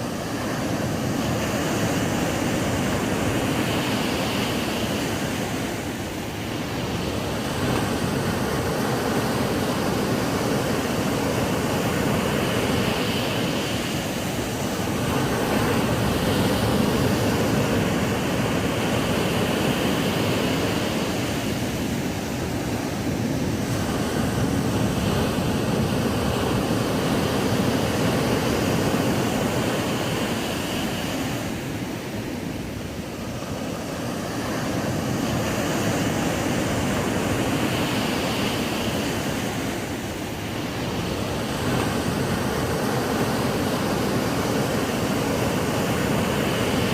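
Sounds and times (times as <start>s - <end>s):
ocean surf breaking on beach: 0.0s - 46.9s.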